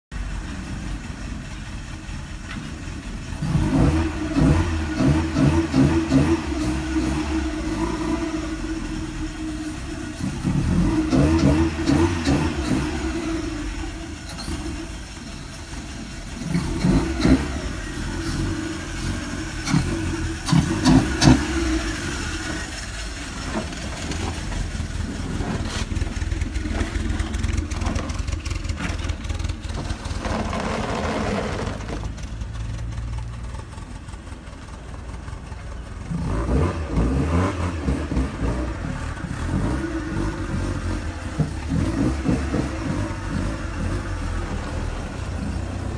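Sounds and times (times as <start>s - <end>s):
car engine revving: 0.1s - 45.9s.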